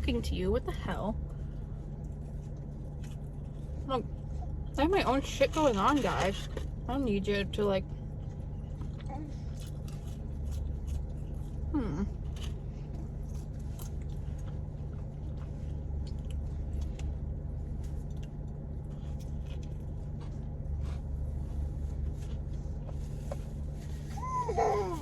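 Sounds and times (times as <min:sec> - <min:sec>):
steady low hum: 0:00.0 - 0:25.0
chewing and crunching food: 0:01.2 - 0:25.0.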